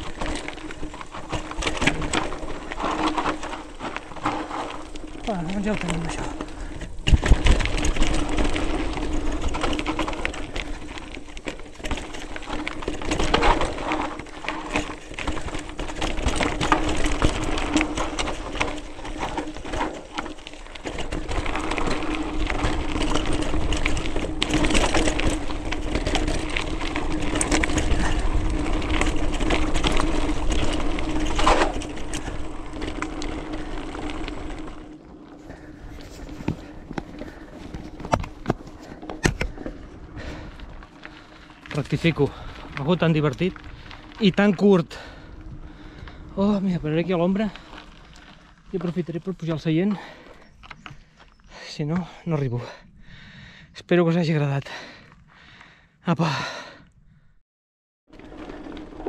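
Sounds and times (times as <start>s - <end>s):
bicycle freehub buzzing: 0.0s - 48.8s, 58.1s - 59.0s
tyres crunching on gravel: 0.0s - 52.9s, 58.1s - 59.0s
bike rattling over rocks: 0.0s - 56.8s, 58.1s - 59.0s.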